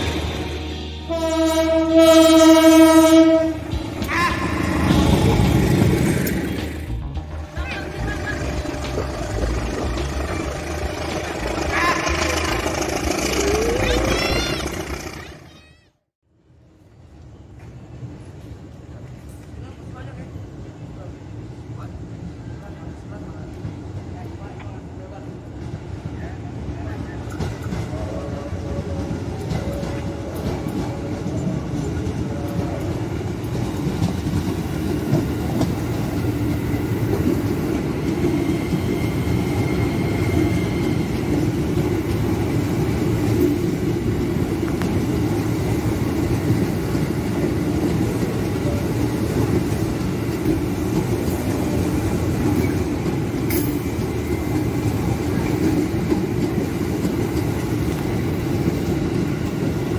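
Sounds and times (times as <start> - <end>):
electric train passing: 0.0 - 59.9
wheels clacking on rails: 1.6 - 15.8, 22.2 - 59.9.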